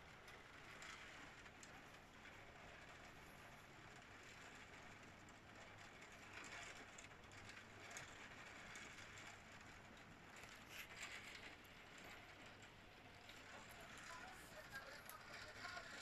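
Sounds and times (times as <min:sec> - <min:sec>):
heavy rain through window glass: 0:00.3 - 0:16.0.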